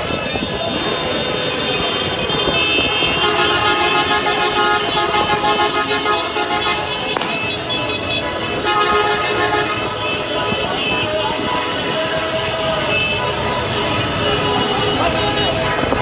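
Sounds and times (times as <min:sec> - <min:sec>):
car horns honking: 0:00.0 - 0:16.0.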